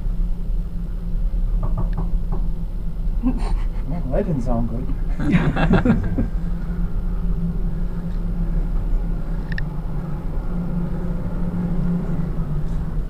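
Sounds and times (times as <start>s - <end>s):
elevator hum and rumble: 0.0s - 13.0s.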